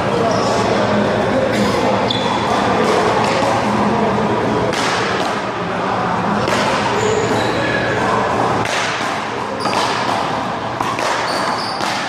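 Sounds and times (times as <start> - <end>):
background noise: 0.0 - 12.0.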